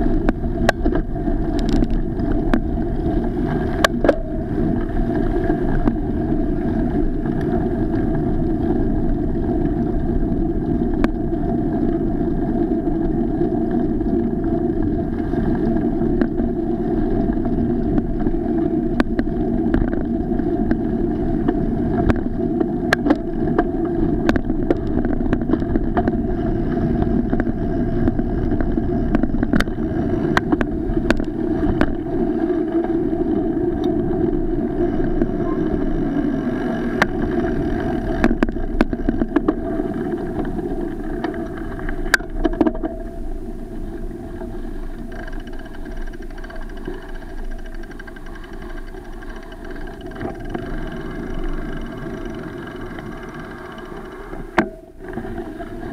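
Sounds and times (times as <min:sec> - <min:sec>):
muffled wind and road noise: 0:00.0 - 0:55.9.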